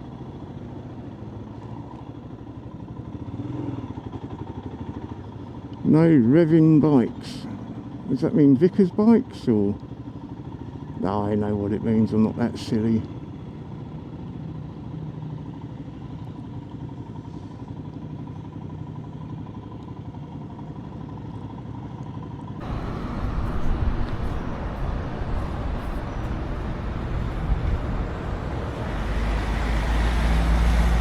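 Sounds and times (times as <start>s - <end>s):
motorcycle engines running: 0.0s - 31.0s.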